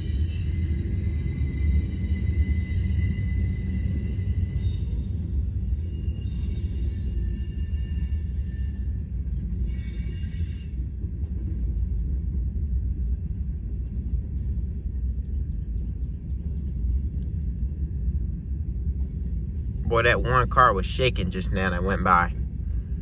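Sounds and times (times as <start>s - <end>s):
freight train cars rumbling: 0.0s - 23.0s.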